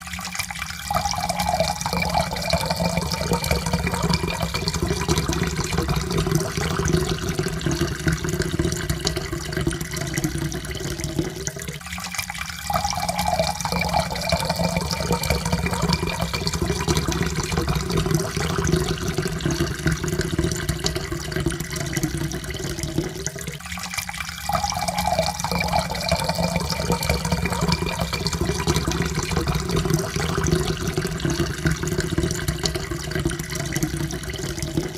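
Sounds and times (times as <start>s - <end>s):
water pouring into a cup: 0.0s - 34.9s.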